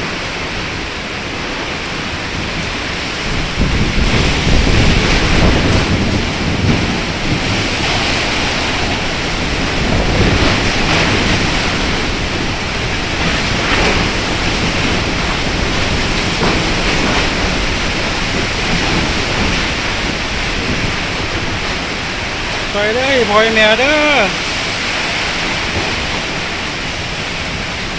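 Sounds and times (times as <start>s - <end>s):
heavy rain: 0.0s - 27.9s
storm wind: 0.0s - 27.9s
wind buffeting microphone: 0.1s - 27.9s.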